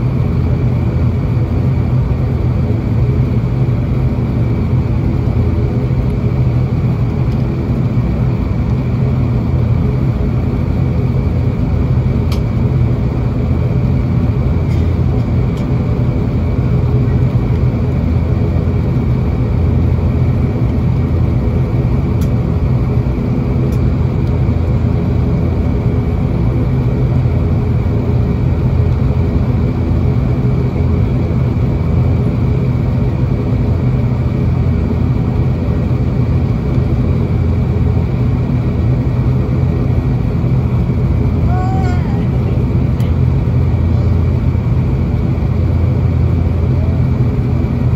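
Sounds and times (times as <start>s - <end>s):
low propeller hum: 0.0s - 47.9s
steady high engine whine: 0.0s - 47.9s.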